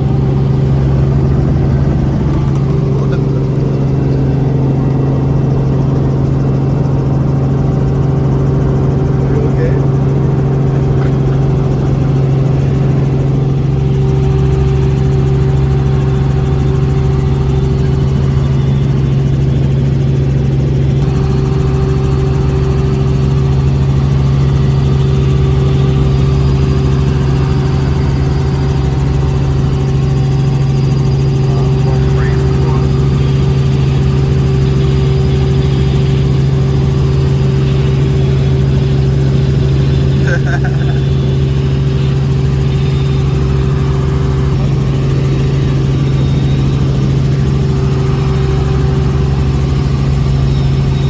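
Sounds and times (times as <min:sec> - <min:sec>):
helicopter engine and rotors: 0:00.0 - 0:51.0.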